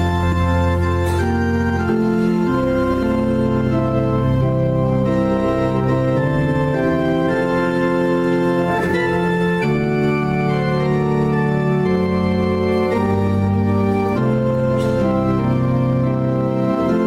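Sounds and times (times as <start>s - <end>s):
church organ playing a hymn: 0.0s - 17.0s.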